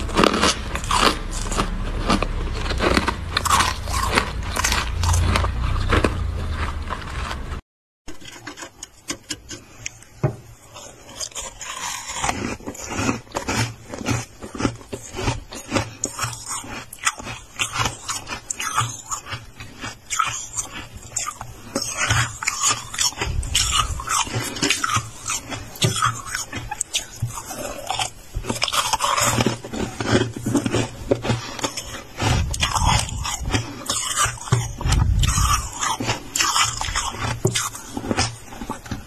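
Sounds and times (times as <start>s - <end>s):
frost crunching and crackling: 0.0s - 39.0s.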